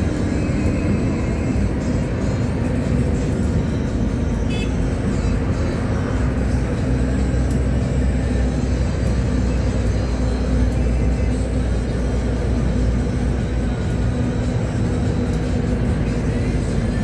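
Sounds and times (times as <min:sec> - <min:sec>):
bus engine running: 0:00.0 - 0:17.0
tyre and road noise: 0:00.0 - 0:17.0.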